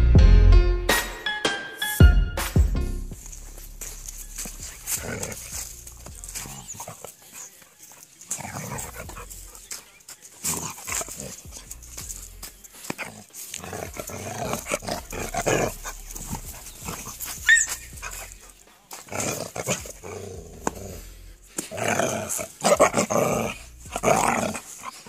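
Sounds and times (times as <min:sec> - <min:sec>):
dogs growling: 0:03.2 - 0:25.0.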